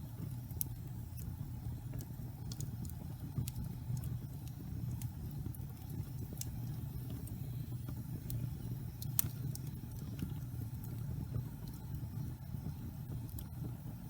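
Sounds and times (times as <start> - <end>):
burning wood crackling and popping: 0.0 - 14.0
fire flames rumbling: 0.0 - 14.0.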